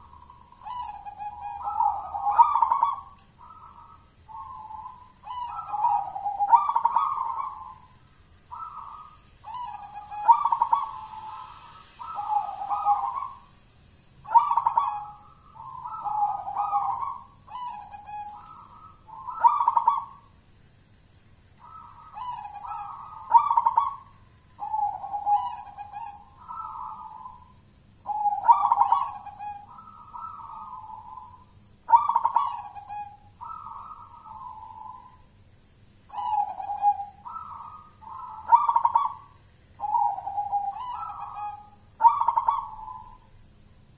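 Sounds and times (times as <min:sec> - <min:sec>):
dove cooing: 0:00.0 - 0:13.6, 0:14.2 - 0:20.3, 0:21.5 - 0:35.3, 0:36.1 - 0:43.4.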